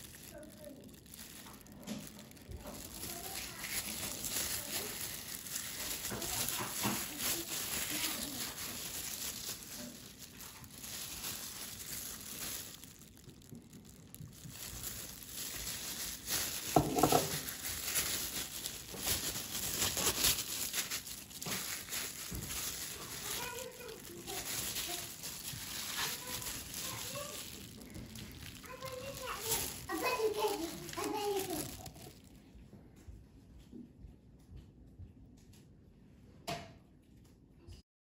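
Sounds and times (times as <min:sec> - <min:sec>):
plastic wrap crinkling: 0:00.0 - 0:32.6.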